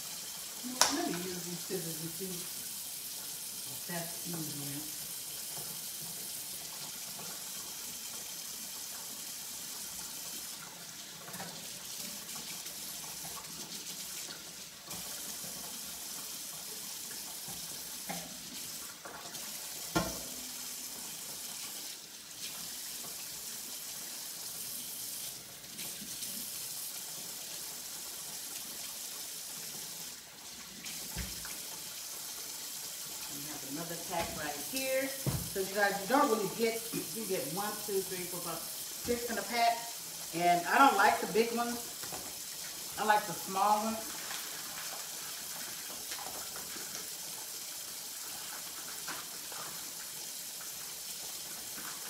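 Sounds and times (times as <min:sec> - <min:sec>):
faucet running into sink: 0:00.0 - 0:52.0.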